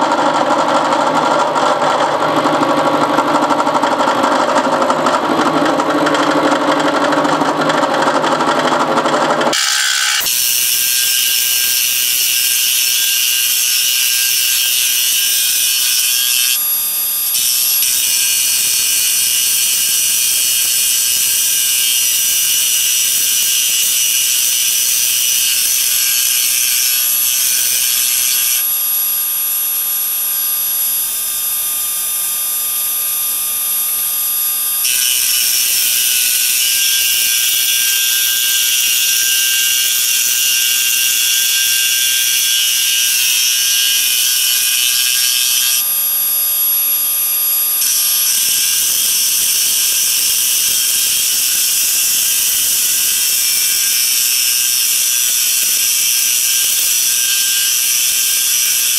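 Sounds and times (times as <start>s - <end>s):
milling machine cutting metal: 0.0s - 58.9s.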